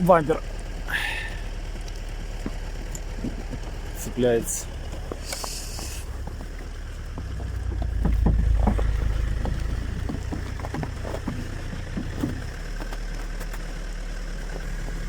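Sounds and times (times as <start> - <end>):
low mechanical drone: 0.0 - 15.0
knocks and creaks: 1.8 - 15.0.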